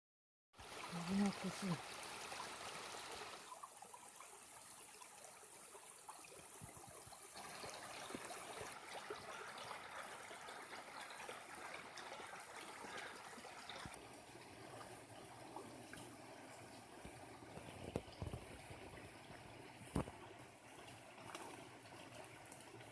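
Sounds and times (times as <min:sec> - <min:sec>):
stream trickling over stones: 0:00.6 - 0:22.9.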